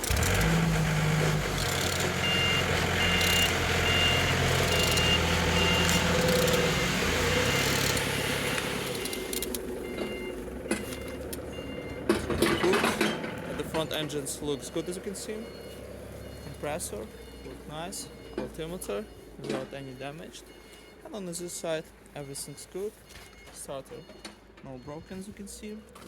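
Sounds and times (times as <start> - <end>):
car engine idling: 0.0 - 22.3
two-tone electronic beeping: 1.8 - 26.0.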